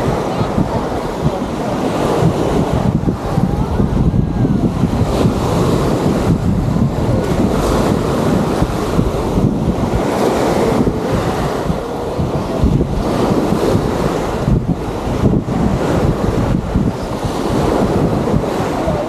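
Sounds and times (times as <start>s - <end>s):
small waves on sandy beach: 0.0s - 19.0s
wind buffeting microphone: 0.0s - 19.0s.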